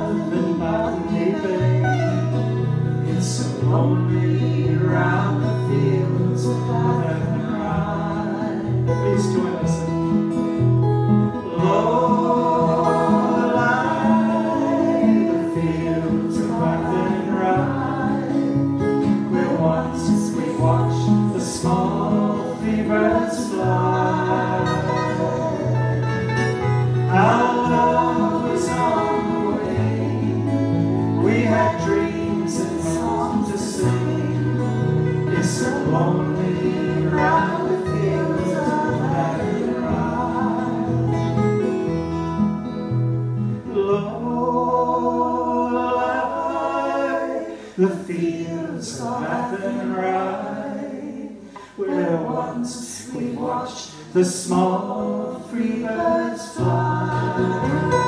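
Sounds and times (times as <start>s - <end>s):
man and woman singing in harmony: 0.0s - 10.4s, 11.3s - 42.0s, 43.6s - 58.0s
acoustic guitars strumming: 0.0s - 58.0s.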